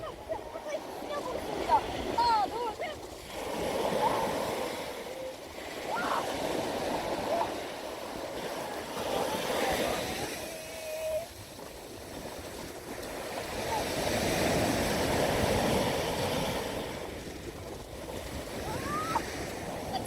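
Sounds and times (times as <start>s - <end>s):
waves breaking on sand: 0.0s - 20.0s.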